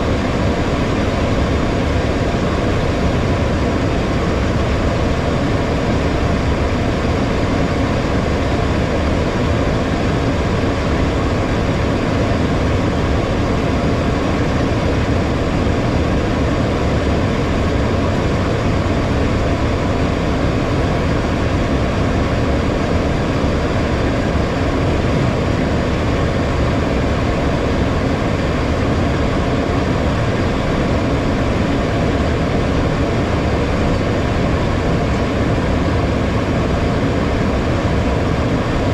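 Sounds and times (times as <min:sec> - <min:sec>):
jet engines humming: 0:00.0 - 0:38.9.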